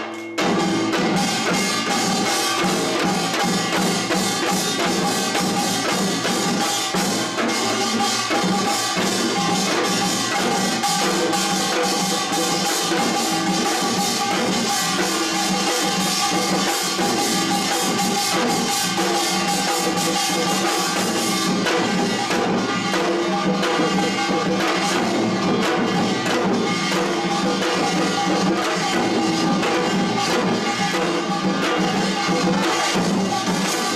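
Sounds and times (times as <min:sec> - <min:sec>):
drums and metal percussion: 0:00.0 - 0:33.9.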